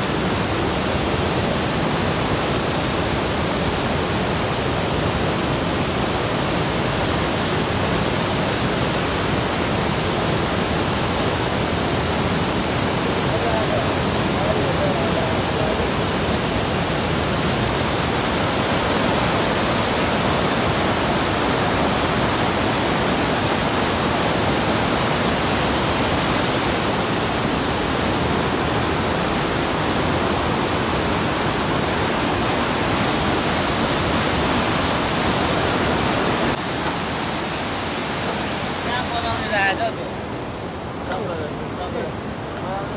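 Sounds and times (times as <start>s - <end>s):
river rushing in flood: 0.0s - 42.9s.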